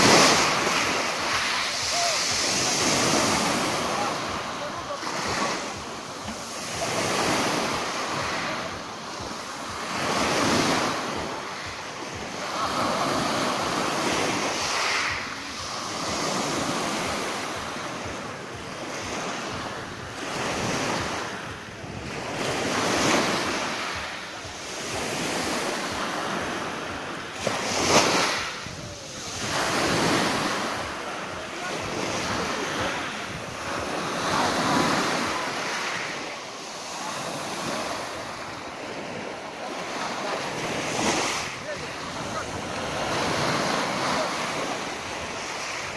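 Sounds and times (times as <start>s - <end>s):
waves breaking on pebble beach: 0.0s - 19.5s, 22.0s - 45.9s.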